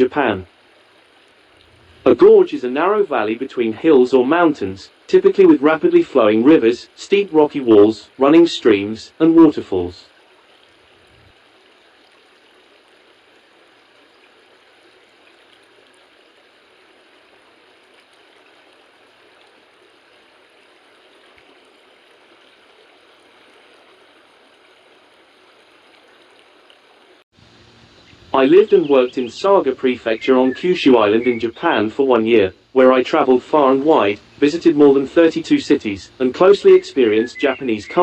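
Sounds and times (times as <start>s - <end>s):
stream water flowing: 0.0s - 38.0s.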